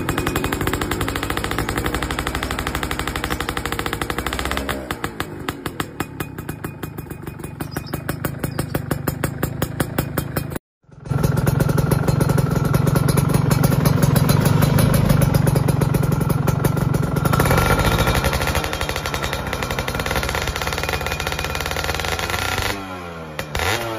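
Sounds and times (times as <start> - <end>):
two-stroke engine popping: 0.0 - 23.9.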